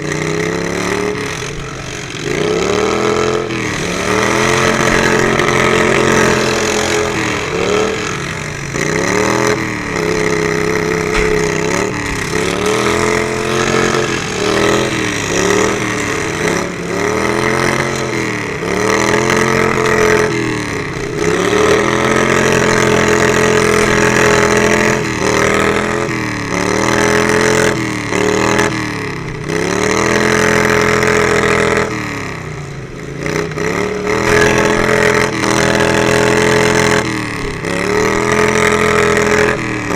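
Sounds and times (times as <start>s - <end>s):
riding lawn mower engine revving: 0.0s - 39.9s.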